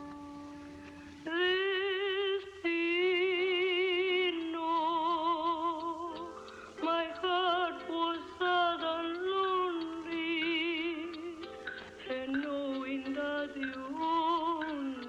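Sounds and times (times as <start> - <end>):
soft accompaniment: 0.0 - 15.0
woman singing wordless notes: 0.0 - 15.0.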